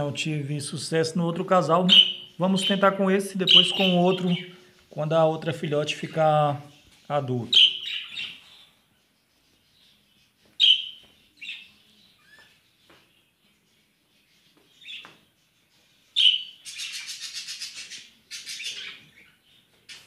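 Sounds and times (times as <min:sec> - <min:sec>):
fast rippling bird chatter: 0:00.0 - 0:20.0
budgerigars chirping: 0:00.6 - 0:20.0.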